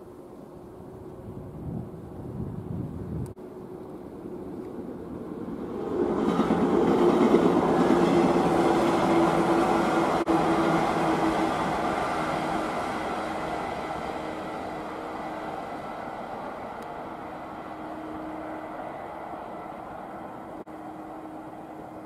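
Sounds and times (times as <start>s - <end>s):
electric train rumbling away: 0.0s - 22.0s.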